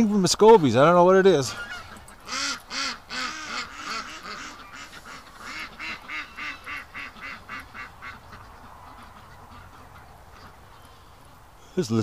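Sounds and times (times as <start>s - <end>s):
ducks quacking: 1.4s - 11.2s.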